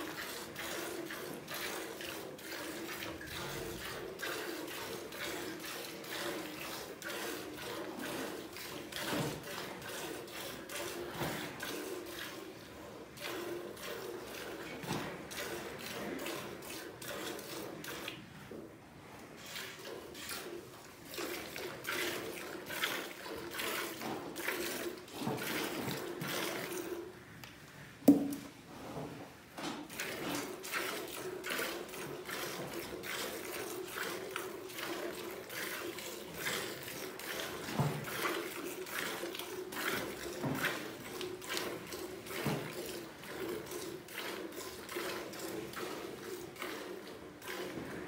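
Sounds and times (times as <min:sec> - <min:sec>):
milk squirting into a pail: 0:00.0 - 0:18.4, 0:19.2 - 0:27.5, 0:29.9 - 0:48.0.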